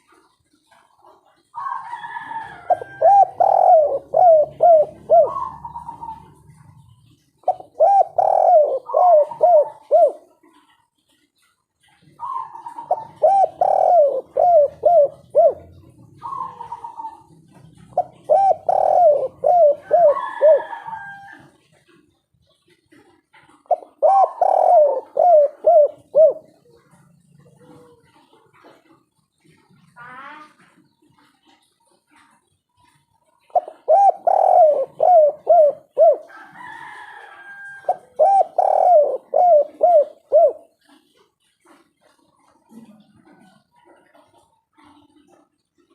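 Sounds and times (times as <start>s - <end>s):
dove cooing: 0.0s - 45.9s.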